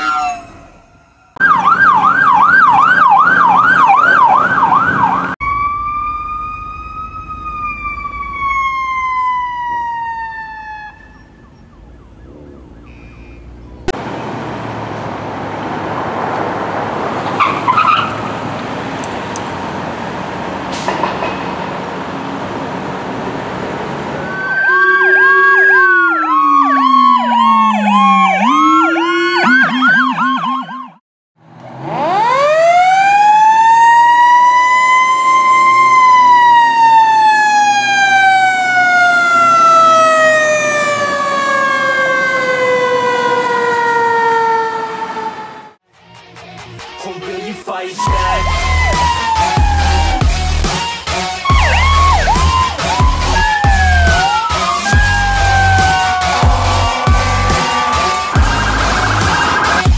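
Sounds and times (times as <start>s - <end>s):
emergency vehicle sirens: 0.0s - 45.9s, 47.9s - 59.9s
road and engine noise: 0.0s - 59.9s.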